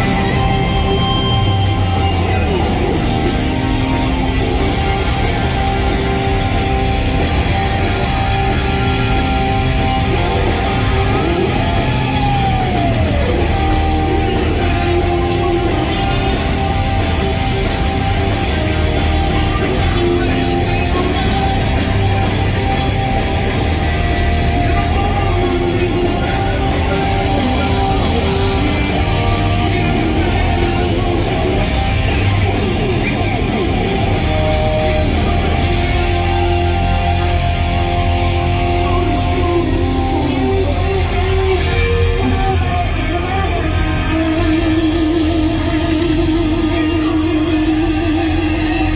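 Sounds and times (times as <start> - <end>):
guitar sliding down in pitch: 0.0 - 48.9
hard rock band playing: 0.0 - 48.9.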